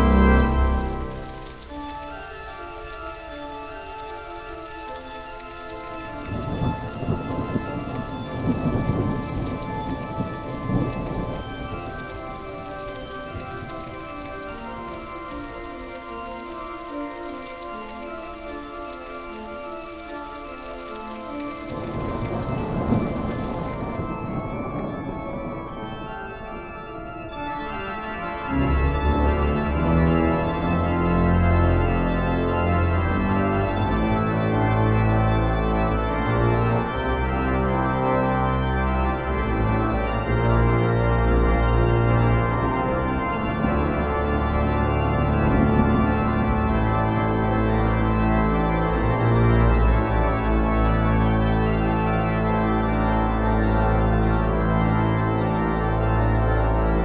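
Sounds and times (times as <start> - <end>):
organ music: 0.0 - 57.0.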